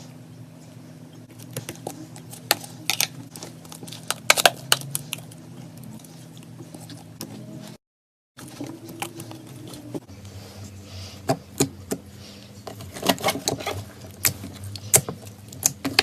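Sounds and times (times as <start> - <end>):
low steady hum: 0.0 - 7.8, 8.4 - 16.0.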